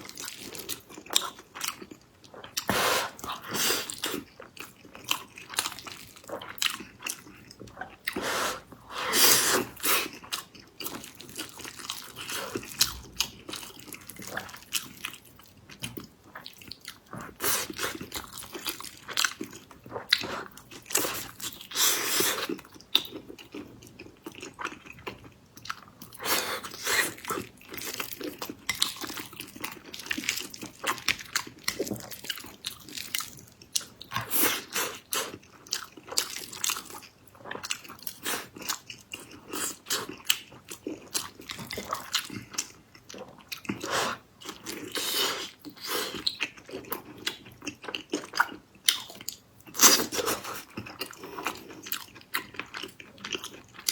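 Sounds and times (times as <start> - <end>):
person chewing sticky food: 0.0 - 53.9.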